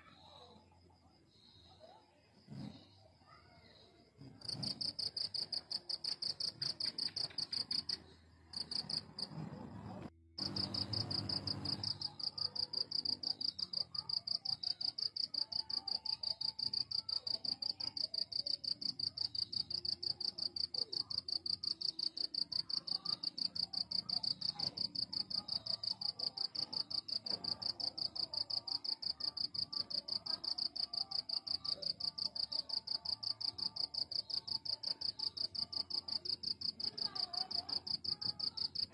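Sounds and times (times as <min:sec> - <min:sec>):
cricket chirping: 0:00.1 - 0:09.5, 0:10.4 - 0:38.9.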